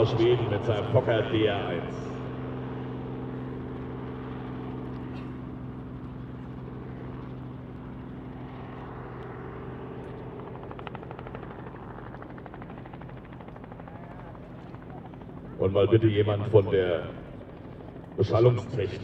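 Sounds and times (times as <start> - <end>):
rotary aircraft engine droning: 0.0 - 19.0.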